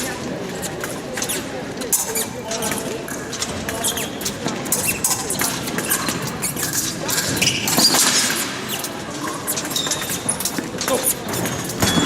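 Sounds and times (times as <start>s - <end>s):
shoes squeaking and shuffling: 0.0s - 12.0s
sports hall noise: 0.0s - 12.0s.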